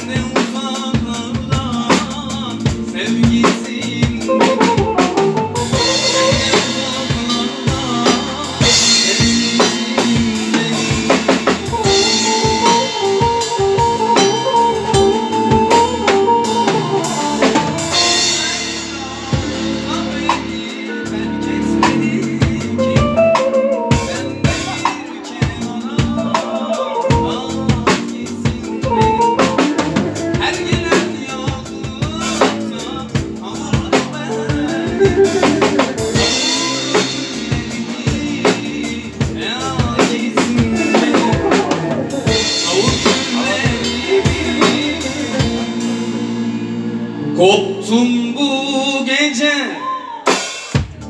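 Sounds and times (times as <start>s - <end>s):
drum kit steady beat: 0.0s - 48.3s, 50.1s - 51.0s
wavering instrumental melody: 4.3s - 48.3s.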